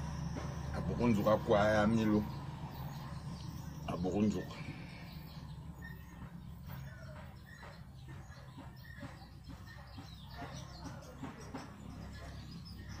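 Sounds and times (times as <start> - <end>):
chicken-like clucking and chirps: 0.0 - 13.0
faint bird calls: 0.0 - 13.0.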